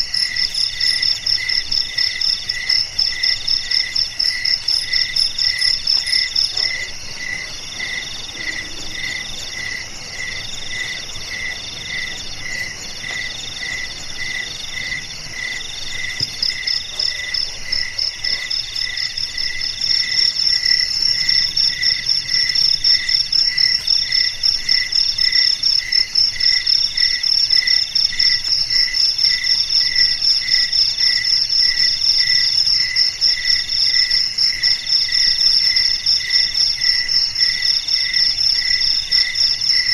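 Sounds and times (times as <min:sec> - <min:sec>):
low-pitched cricket chirping: 0:00.0 - 0:39.9.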